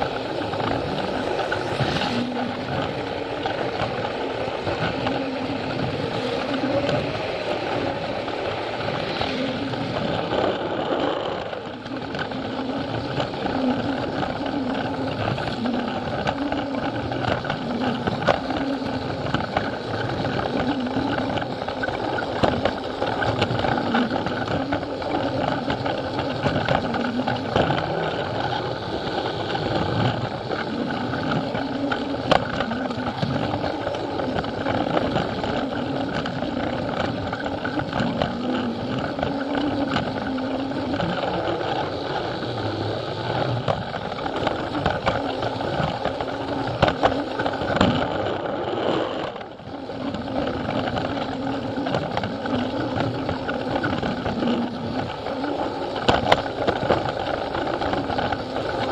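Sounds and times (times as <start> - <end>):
plastic wheels rattling on track: 0.0 - 58.9
toy train motor running: 0.0 - 58.9.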